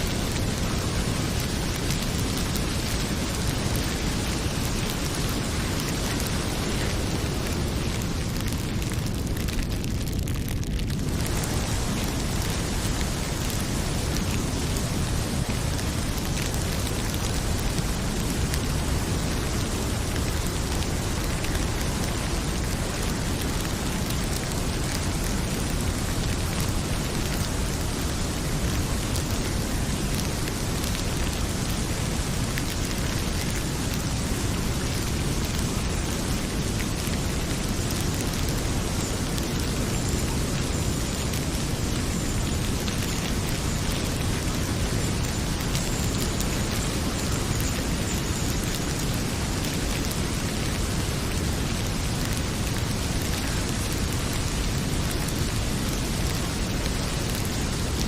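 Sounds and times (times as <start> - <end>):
faint wood fire crackles: 0.0 - 58.0
heavy rain pouring: 0.0 - 58.0.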